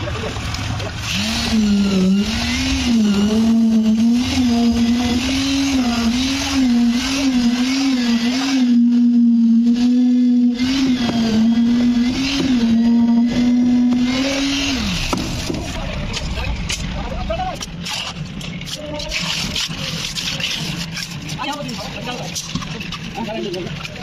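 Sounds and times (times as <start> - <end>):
concrete vibrator motor hum: 0.1 - 24.0.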